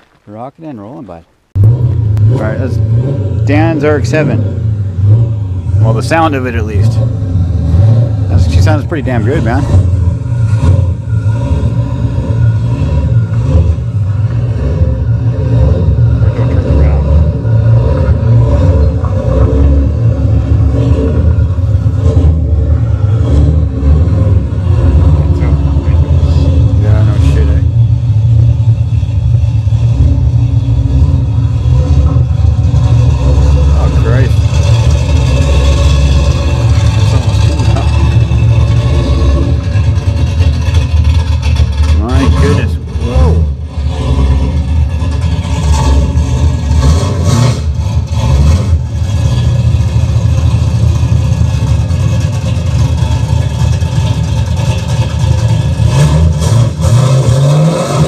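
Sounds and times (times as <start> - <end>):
car engine idling: 0.0 - 57.7.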